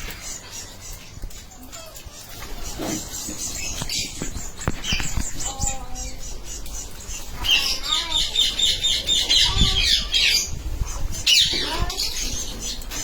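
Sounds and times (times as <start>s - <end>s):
parakeets squawking: 0.0s - 13.0s.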